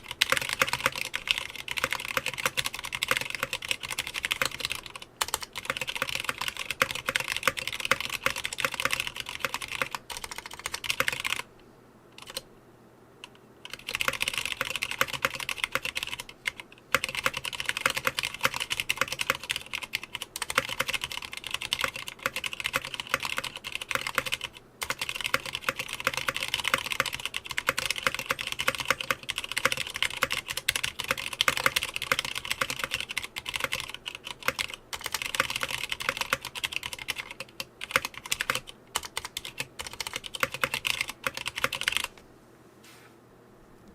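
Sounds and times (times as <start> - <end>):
mechanical keyboard typing: 0.0 - 11.5, 12.2 - 12.5, 13.2 - 42.2.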